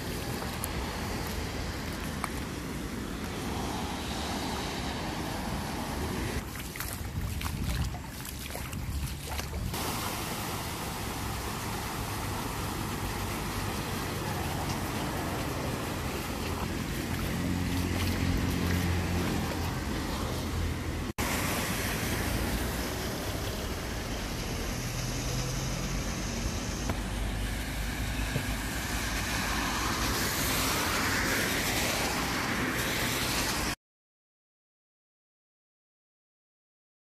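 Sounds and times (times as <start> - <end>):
car traffic passing: 0.0 - 7.2, 9.2 - 33.8.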